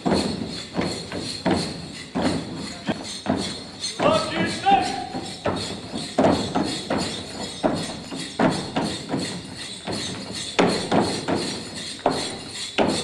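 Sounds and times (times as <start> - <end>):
feet stamping on a stage: 0.0 - 13.0.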